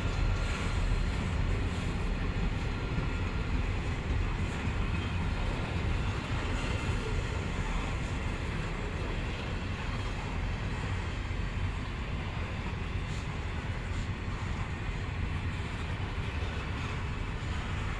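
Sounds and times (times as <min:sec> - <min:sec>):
train wheels rumbling on track: 0:00.0 - 0:17.9.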